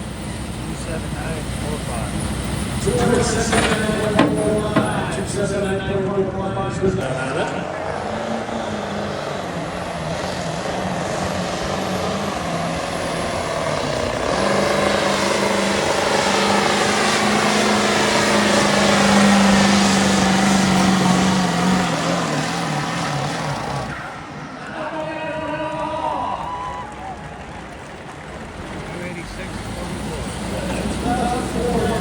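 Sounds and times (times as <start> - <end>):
diesel truck engine at full throttle: 0.0 - 32.0
turbo and exhaust rush: 0.0 - 32.0.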